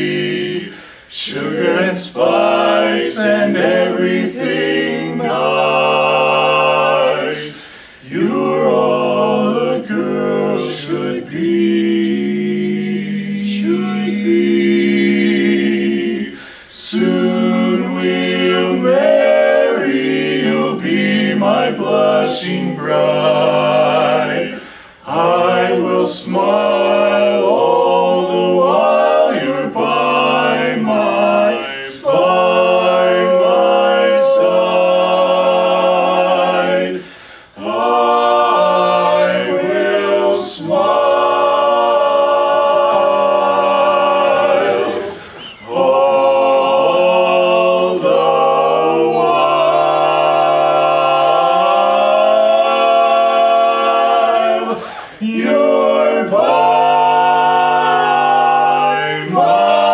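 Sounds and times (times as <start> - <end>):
male vocal quartet singing: 0.0 - 59.9.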